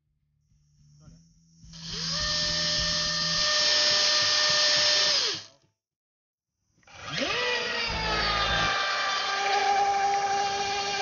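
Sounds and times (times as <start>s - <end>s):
electric motor whine: 0.8s - 5.5s, 6.8s - 11.0s.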